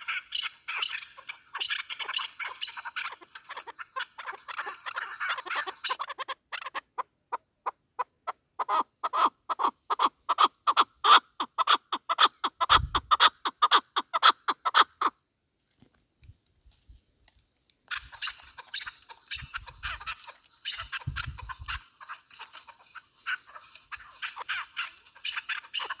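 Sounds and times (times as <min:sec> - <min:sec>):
partridge clucking calls: 0:00.0 - 0:15.2, 0:17.8 - 0:26.0.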